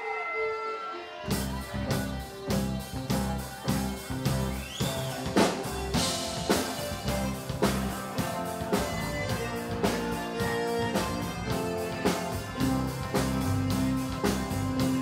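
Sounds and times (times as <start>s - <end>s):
rock band playing: 0.0s - 15.0s
drum kit beat: 1.3s - 15.0s.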